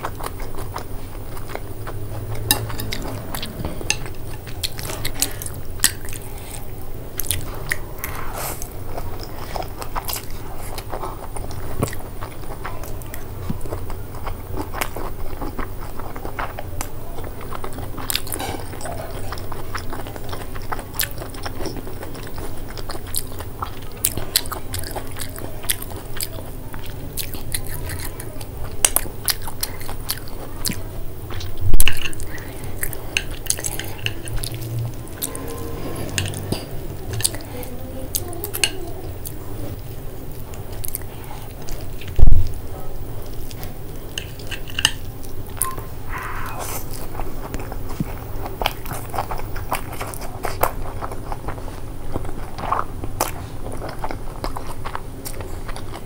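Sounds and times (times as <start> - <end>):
chewing noodles: 0.0 - 56.0.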